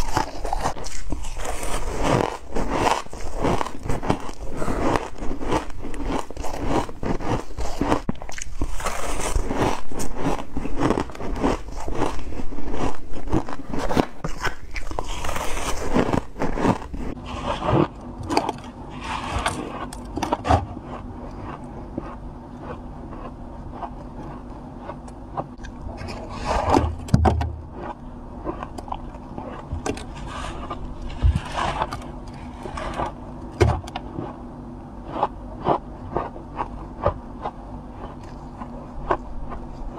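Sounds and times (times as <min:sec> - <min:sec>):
biting and crunching frost: 0:00.0 - 0:39.9.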